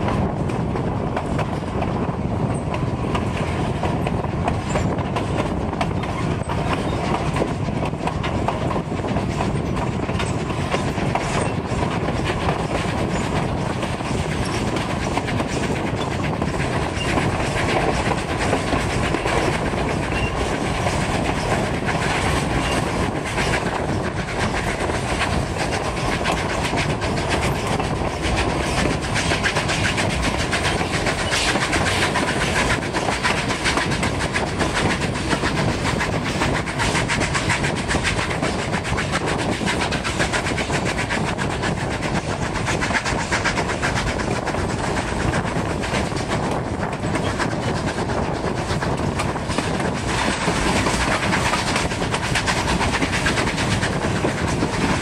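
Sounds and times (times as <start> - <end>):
train rolling rumble: 0.0 - 55.0
wheels clicking over rail joints: 0.1 - 55.0.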